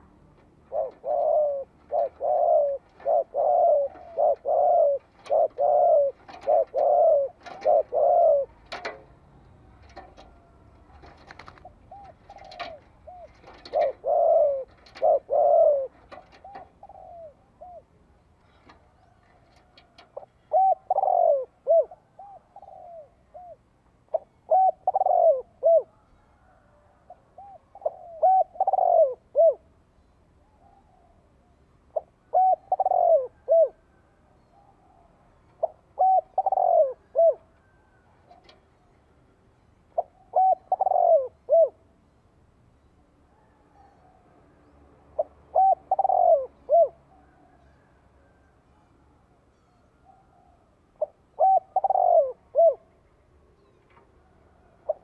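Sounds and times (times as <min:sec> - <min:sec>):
dove cooing: 0:00.0 - 0:29.7, 0:30.5 - 0:38.9, 0:39.9 - 0:41.9, 0:45.2 - 0:48.5, 0:50.0 - 0:53.0, 0:53.6 - 0:55.0.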